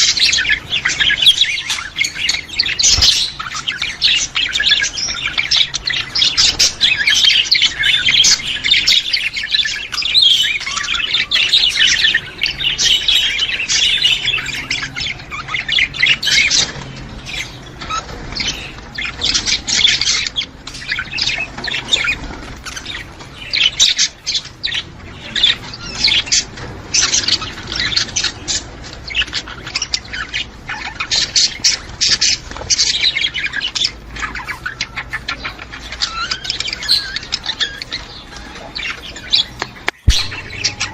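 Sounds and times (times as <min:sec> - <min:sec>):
budgerigars chattering and squawking: 0:00.0 - 0:40.9.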